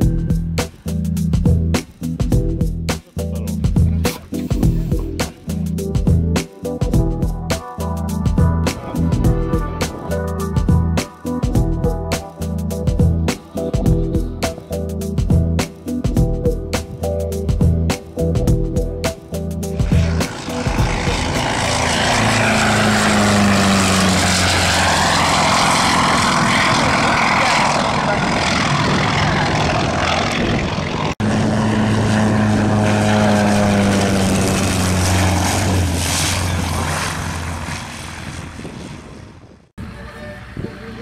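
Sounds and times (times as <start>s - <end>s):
propeller aircraft flying by: 0.0s - 41.0s.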